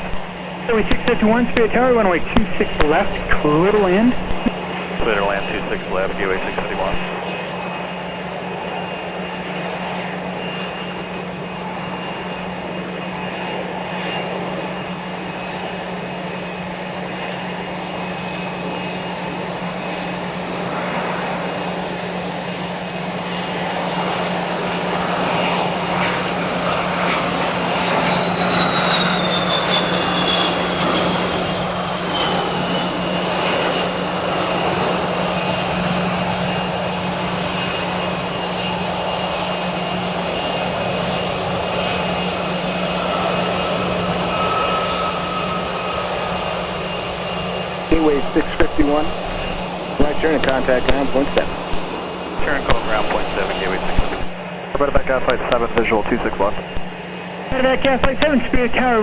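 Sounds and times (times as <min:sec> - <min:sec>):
high whine gliding down: 0:00.0 - 0:16.5, 0:24.0 - 0:59.0
jet engine noise: 0:00.0 - 0:59.0.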